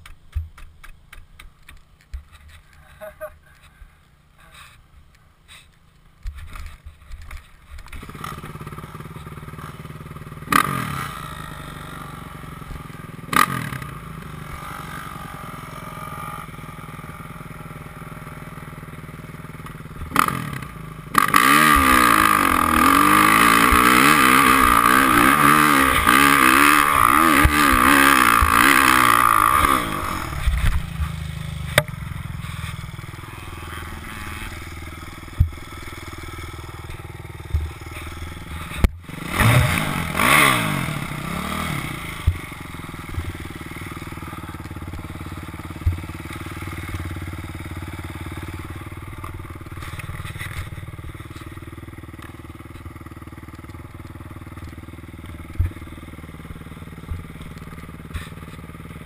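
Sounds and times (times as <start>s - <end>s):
dirt bike engine idling and revving: 0.0s - 59.0s.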